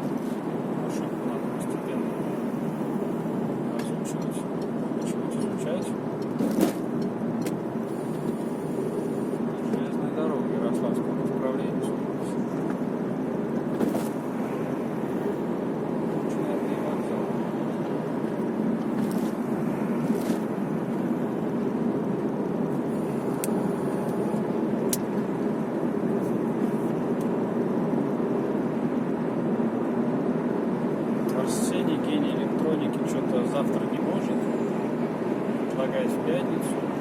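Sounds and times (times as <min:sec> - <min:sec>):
car interior road noise: 0:00.0 - 0:37.0.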